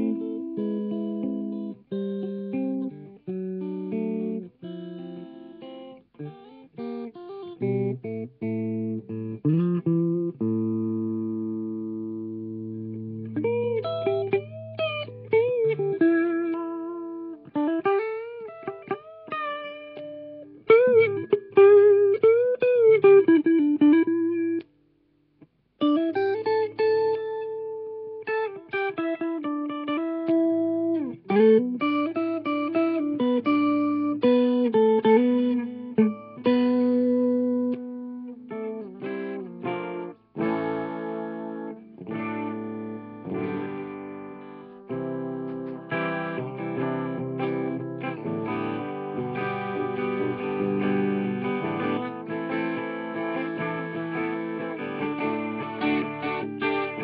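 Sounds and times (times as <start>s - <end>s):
electric guitar lead: 0.0s - 24.8s, 25.8s - 57.0s.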